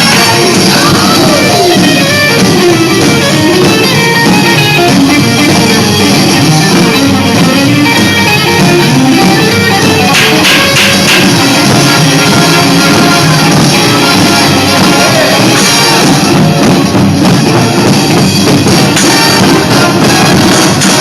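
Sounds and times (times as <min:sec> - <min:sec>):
live band with plucked strings: 0:00.0 - 0:21.0.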